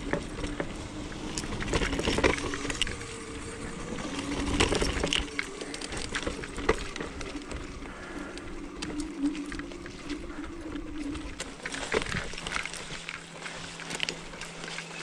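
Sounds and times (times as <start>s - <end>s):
electric motor whine: 0.0s - 15.0s
scooter rattling over bumps: 0.0s - 15.0s
tyres rolling on rough ground: 0.0s - 15.0s.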